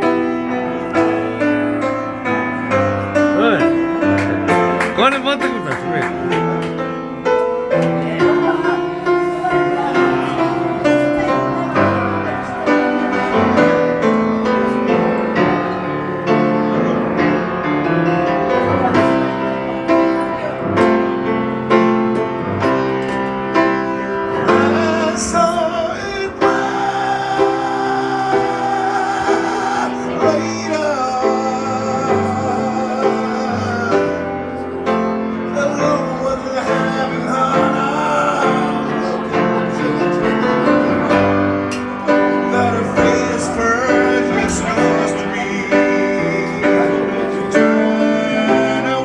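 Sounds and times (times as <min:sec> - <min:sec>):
keyboard music: 0:00.0 - 0:49.0.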